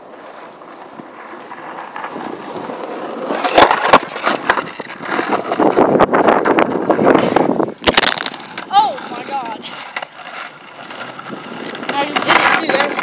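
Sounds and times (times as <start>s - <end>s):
skateboard clacking on concrete curb: 0.0s - 13.0s
skateboard wheels rolling on pavement: 0.0s - 13.0s.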